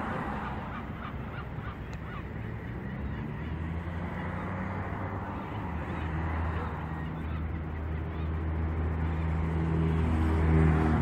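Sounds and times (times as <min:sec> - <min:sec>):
low engine hum: 0:00.0 - 0:11.0
wind-like outdoor noise: 0:00.0 - 0:11.0.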